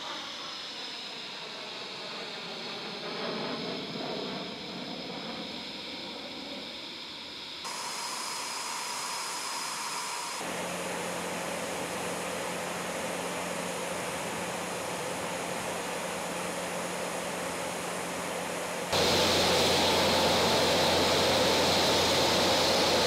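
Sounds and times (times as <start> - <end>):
faint steady whine: 0.0 - 23.0
jet rushing hiss: 0.0 - 23.0.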